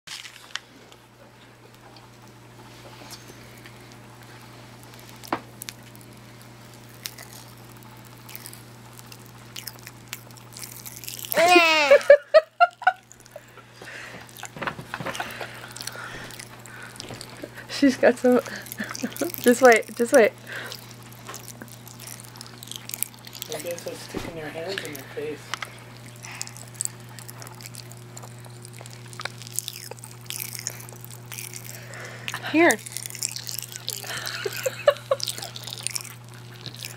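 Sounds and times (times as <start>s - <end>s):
faint steady hum: 0.1s - 36.9s
popping candy crackling: 3.6s - 24.0s, 25.6s - 36.9s.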